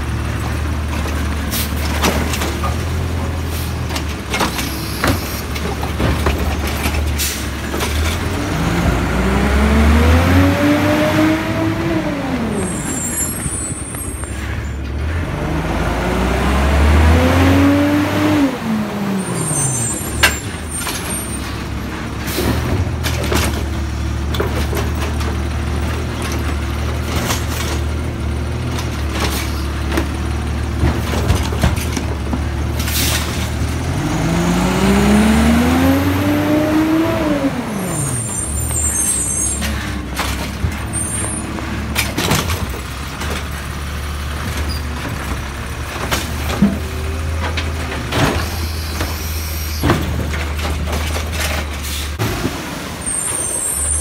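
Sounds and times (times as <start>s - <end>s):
garbage truck engine: 0.0s - 54.0s.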